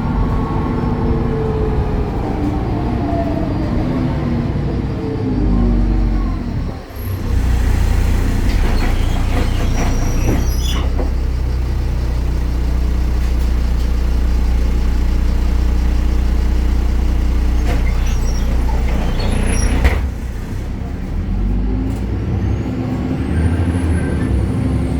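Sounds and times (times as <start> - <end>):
bus diesel engine idling: 0.0 - 24.9.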